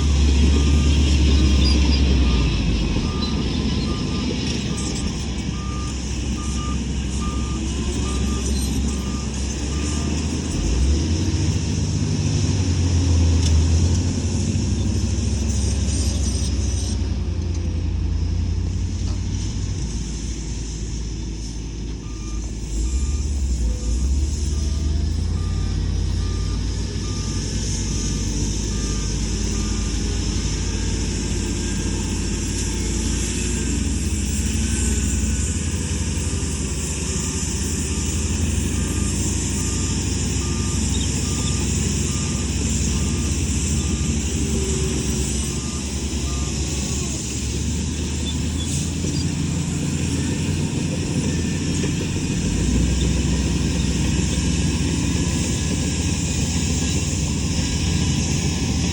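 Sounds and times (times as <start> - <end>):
reversing alarm beeping: 0.0 - 12.1, 21.9 - 58.9
diesel engine under load: 0.0 - 58.9.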